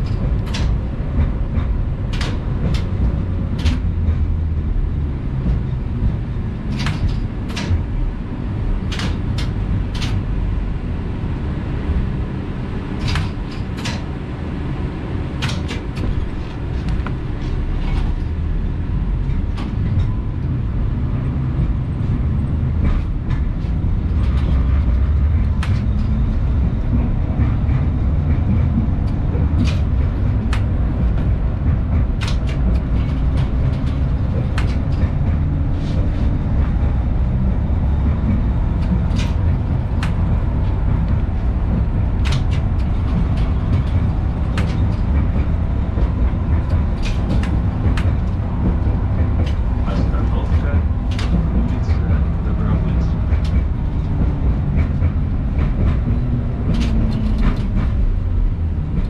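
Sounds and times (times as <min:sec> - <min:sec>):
sharp clicks and knocks: 0:00.0 - 0:04.6, 0:05.4 - 0:07.9, 0:08.8 - 0:10.4, 0:13.0 - 0:14.1, 0:15.4 - 0:18.4, 0:19.2 - 0:58.2
tram wheels rumbling on rails: 0:00.0 - 0:59.0.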